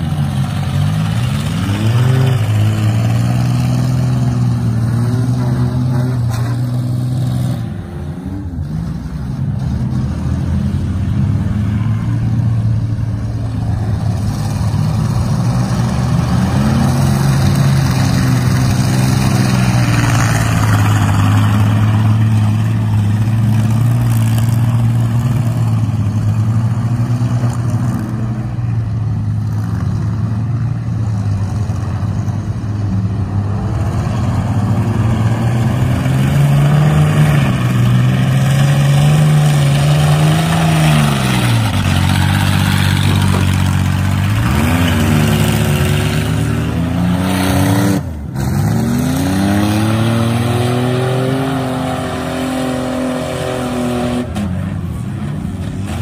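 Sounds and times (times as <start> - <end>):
minivan engines revving: 0.0 - 56.0.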